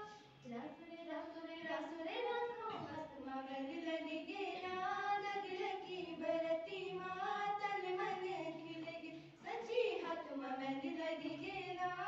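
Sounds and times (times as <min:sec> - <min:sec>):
girls singing unaccompanied: 0:00.0 - 0:12.0.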